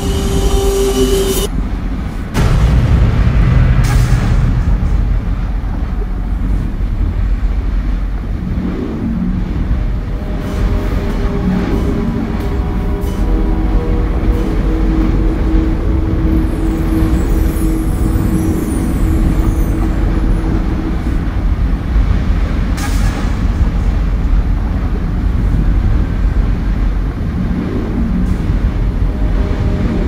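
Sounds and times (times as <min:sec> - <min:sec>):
deep continuous rumble: 0:00.0 - 0:30.0
low drone: 0:00.0 - 0:30.0.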